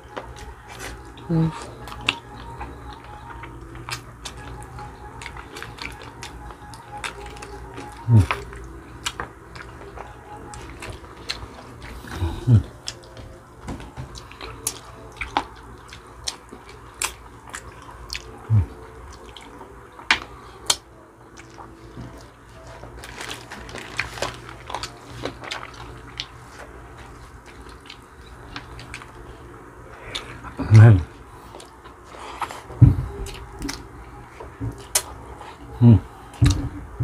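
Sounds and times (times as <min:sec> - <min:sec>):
wet chewing and lip-smacking: 0:00.1 - 0:29.3, 0:29.9 - 0:37.0.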